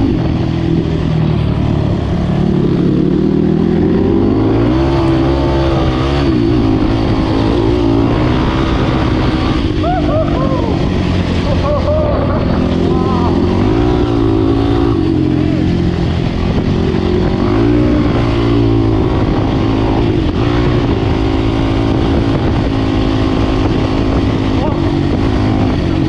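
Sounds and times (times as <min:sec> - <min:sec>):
off-road vehicle engine: 0:00.0 - 0:26.0.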